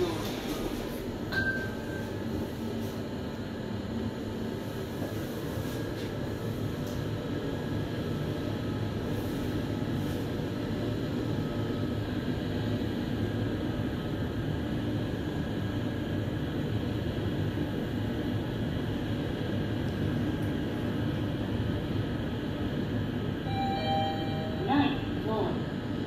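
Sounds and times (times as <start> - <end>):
elevator car rumble and air rush: 0.0 - 3.3, 3.9 - 26.0.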